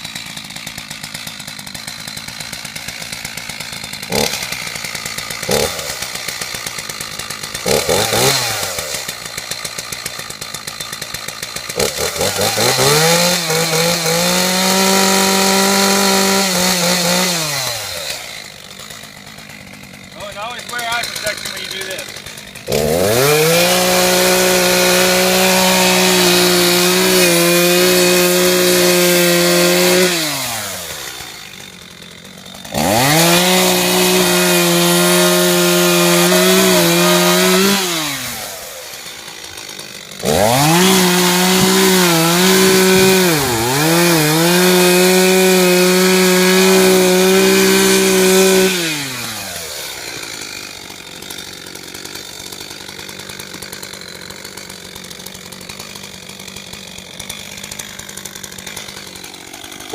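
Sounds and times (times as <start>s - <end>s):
chainsaw revving and idling: 0.0s - 59.9s.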